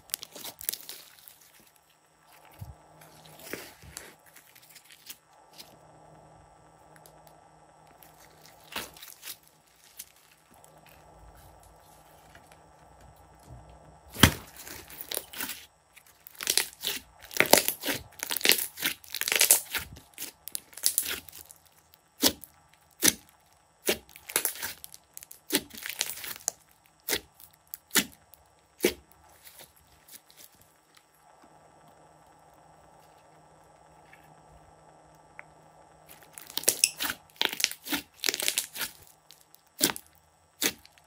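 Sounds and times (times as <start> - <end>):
slime crackling and popping: 0.0 - 5.8, 6.9 - 13.5, 14.1 - 31.0, 36.1 - 41.0.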